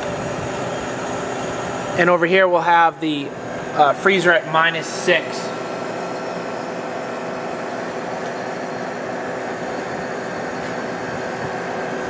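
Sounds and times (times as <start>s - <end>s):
refrigeration machinery humming: 0.0s - 12.0s.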